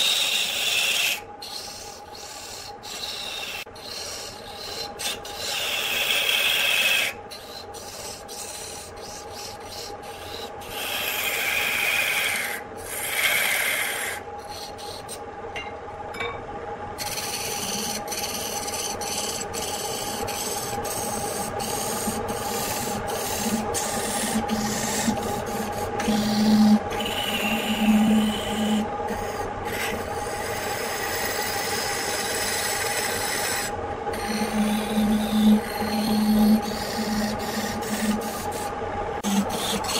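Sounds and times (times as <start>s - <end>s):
lathe motor humming: 0.0s - 15.2s, 17.0s - 39.9s
tool scraping spinning wood: 0.0s - 15.2s, 17.0s - 39.9s.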